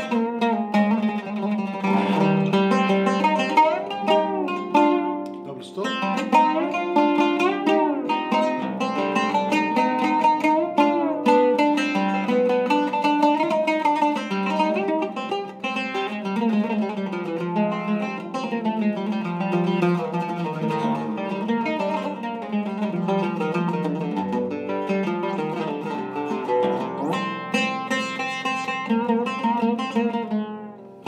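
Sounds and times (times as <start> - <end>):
oud plucked melody: 0.0 - 31.0.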